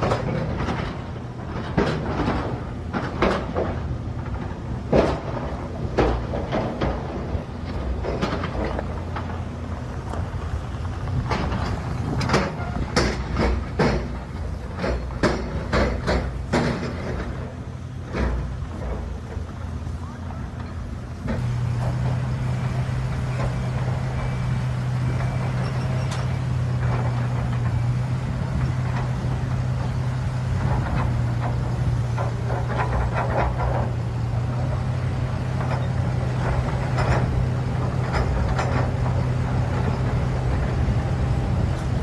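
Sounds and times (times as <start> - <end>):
heavy vehicle engine humming: 0.0 - 42.0
knocks and clanks: 0.0 - 42.0.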